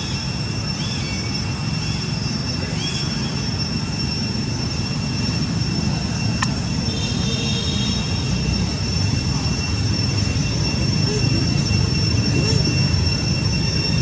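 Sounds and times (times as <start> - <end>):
high-pitched insect whine: 0.0 - 14.0.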